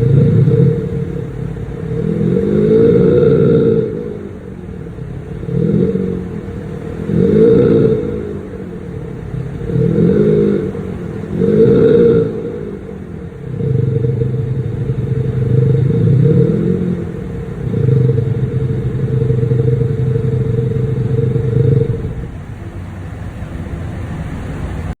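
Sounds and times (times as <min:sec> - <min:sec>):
car exhaust revving: 0:00.0 - 0:25.0.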